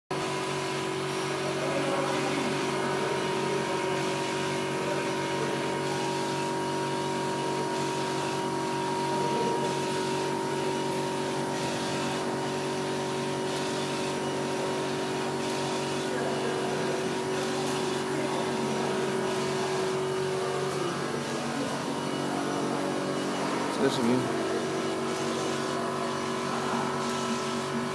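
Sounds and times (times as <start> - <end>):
printer machine hum: 0.1 - 27.9
print carriage hiss: 1.1 - 27.9.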